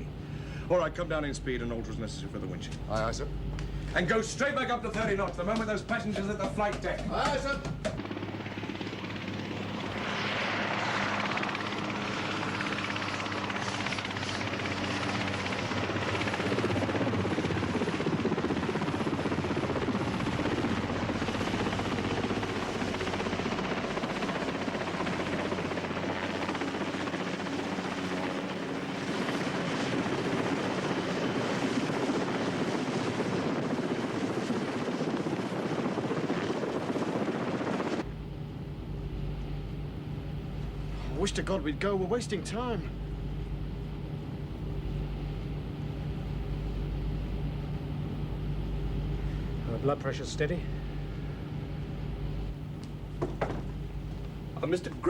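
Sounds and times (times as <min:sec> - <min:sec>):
helicopter rotor and engine din: 0:00.0 - 0:55.0.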